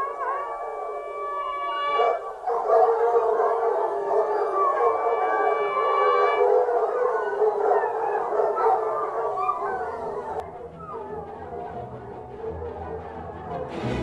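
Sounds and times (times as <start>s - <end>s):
hounds howling: 0.0s - 13.8s.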